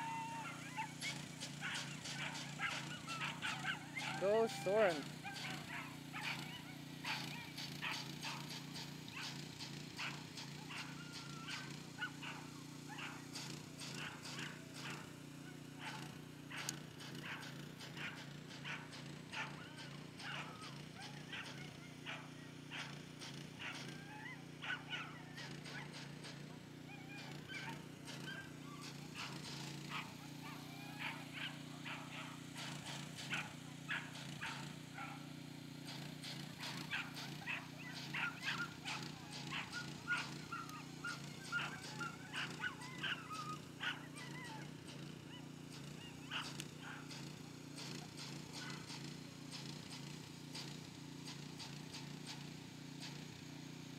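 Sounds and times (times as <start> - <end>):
dogs barking and yelping: 0.0 - 50.1.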